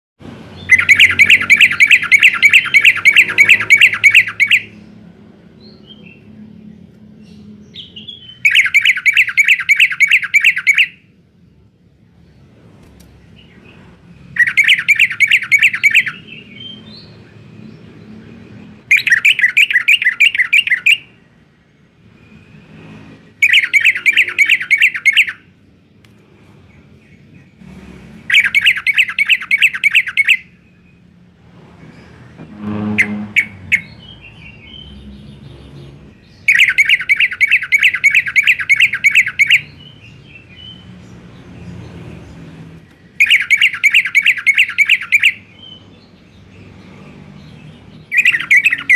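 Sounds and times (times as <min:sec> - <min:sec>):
bulbul singing: 0:00.3 - 0:27.6, 0:28.2 - 0:48.9
bird chirps: 0:00.5 - 0:26.0, 0:28.2 - 0:31.2, 0:31.9 - 0:48.9.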